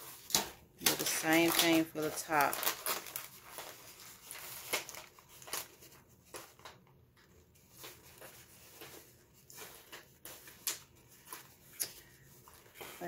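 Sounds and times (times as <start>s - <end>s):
paper bag rustling and crackling: 0.0s - 13.0s.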